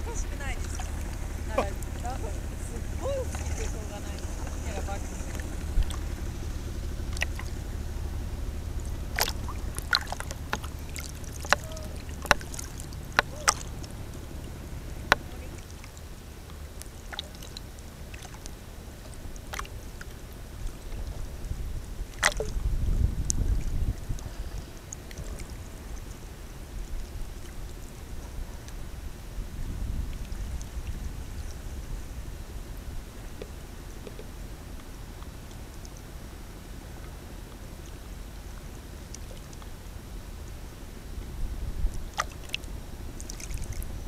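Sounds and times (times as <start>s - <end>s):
water splashes and drips: 0.0s - 32.0s, 36.8s - 40.7s, 41.8s - 44.0s
sea water sloshing and lapping: 0.0s - 44.0s
steady low rumble: 0.0s - 44.0s.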